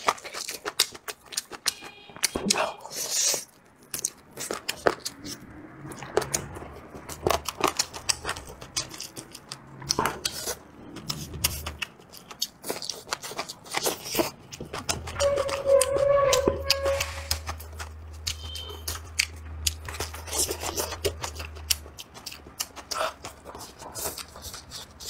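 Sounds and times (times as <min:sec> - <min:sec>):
man chewing with wet smacks: 0:00.0 - 0:25.0.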